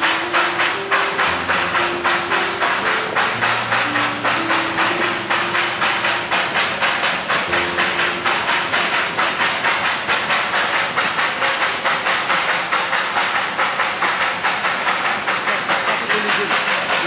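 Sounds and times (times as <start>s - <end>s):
steam hissing: 0.0s - 17.0s
steam locomotive chuffing: 0.0s - 17.0s.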